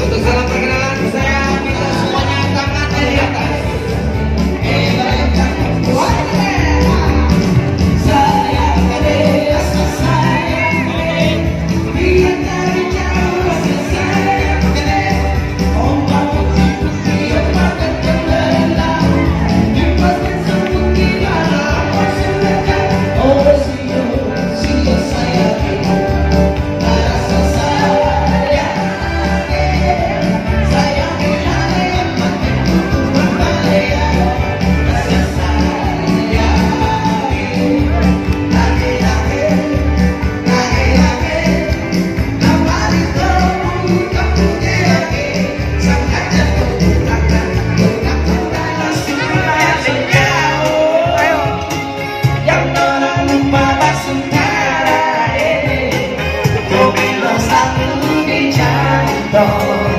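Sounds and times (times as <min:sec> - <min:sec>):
upbeat dance song with singing: 0:00.0 - 0:59.9.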